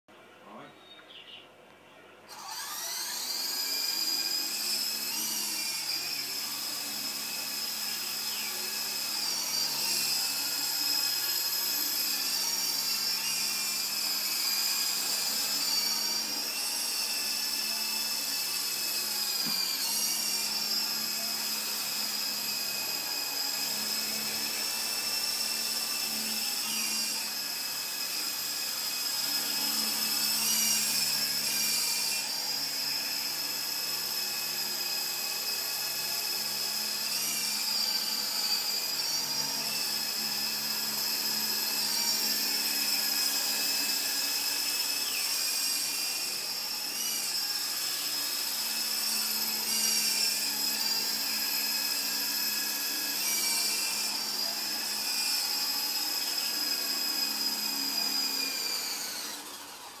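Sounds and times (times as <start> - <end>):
toy helicopter motor whine: 2.3 - 60.0.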